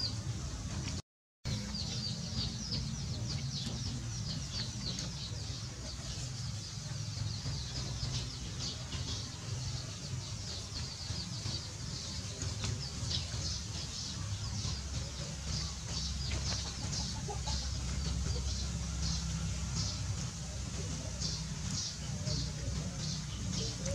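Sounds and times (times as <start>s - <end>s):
birds chirping: 0.0s - 23.9s
steady low rumble: 0.0s - 23.9s.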